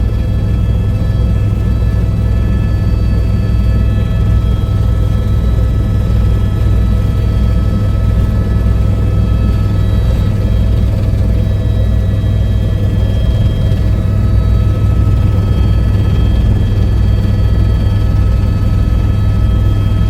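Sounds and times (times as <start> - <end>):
helicopter rotor and engine drone: 0.0 - 20.0
high whining tones: 0.4 - 20.0.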